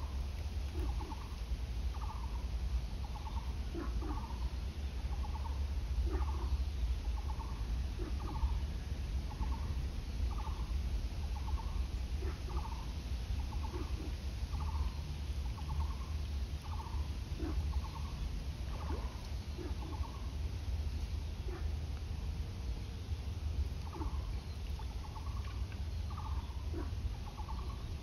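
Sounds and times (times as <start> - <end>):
animal trilled calls: 0.0 - 4.5, 5.1 - 8.6, 9.3 - 20.3, 23.8 - 28.0.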